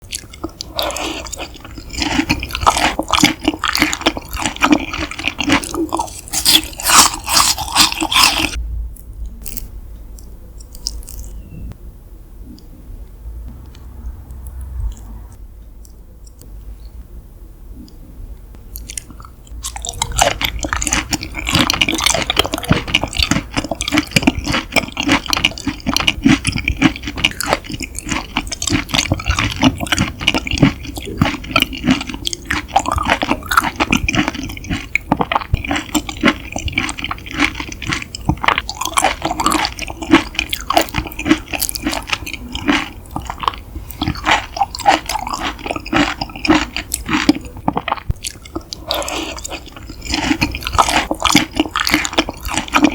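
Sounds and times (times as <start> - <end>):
close chewing mouth sounds: 0.0 - 11.8, 18.6 - 52.9.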